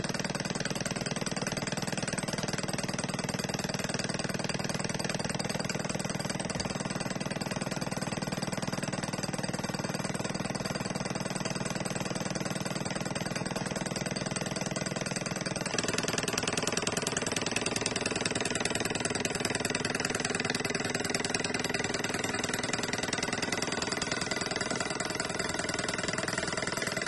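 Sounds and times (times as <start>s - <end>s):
model engine clattering: 0.0s - 27.0s.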